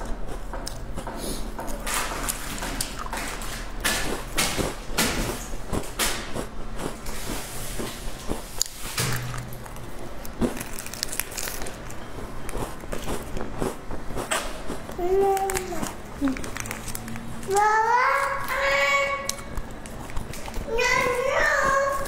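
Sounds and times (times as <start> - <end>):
crunching biscuits: 0.0 - 22.0.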